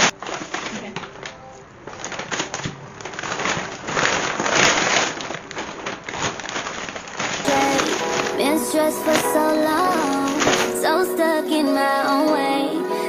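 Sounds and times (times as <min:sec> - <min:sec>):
grocery bags rustling: 0:00.0 - 0:13.0.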